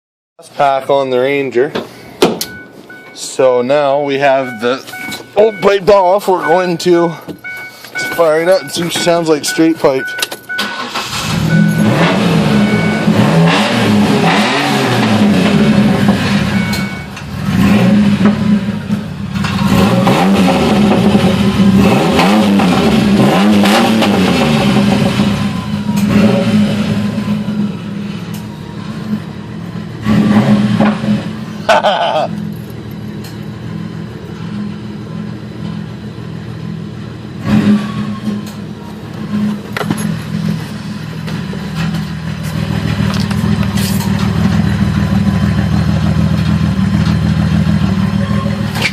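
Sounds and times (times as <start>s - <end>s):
truck engine idling and revving: 0.4s - 48.9s.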